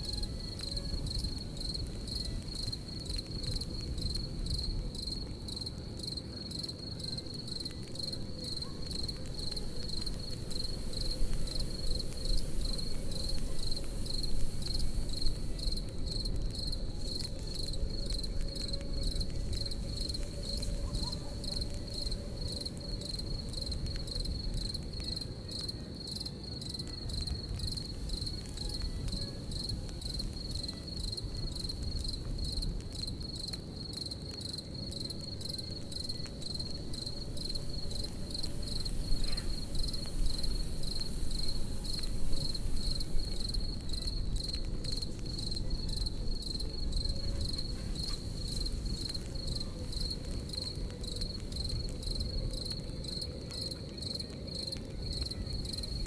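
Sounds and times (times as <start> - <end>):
campfire crackling: 0.0 - 56.0
crickets chirping: 0.0 - 56.0.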